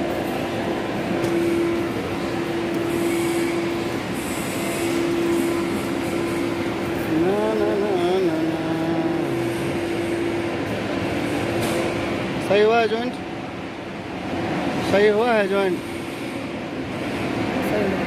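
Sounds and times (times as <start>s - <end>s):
steady machine tone: 0.0s - 17.6s
industrial machinery hum: 0.0s - 18.0s.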